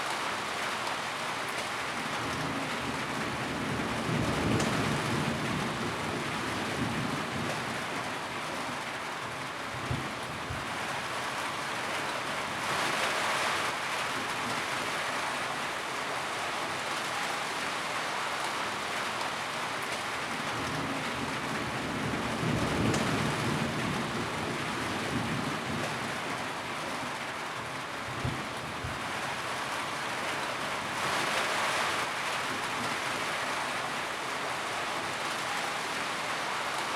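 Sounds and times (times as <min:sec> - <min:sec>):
rain on a tin roof: 0:00.0 - 0:36.9.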